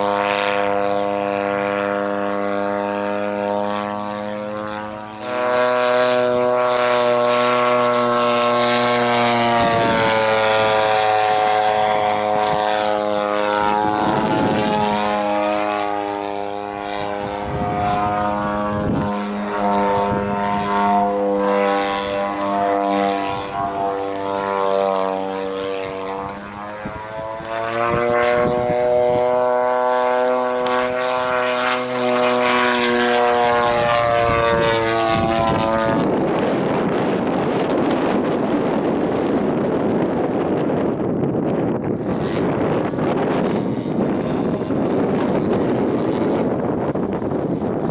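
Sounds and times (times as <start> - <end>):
model airplane engine drone: 0.0 - 47.9.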